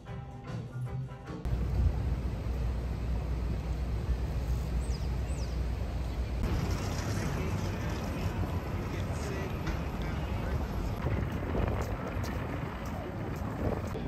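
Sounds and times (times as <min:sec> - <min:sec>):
low traffic rumble: 0:01.5 - 0:14.0.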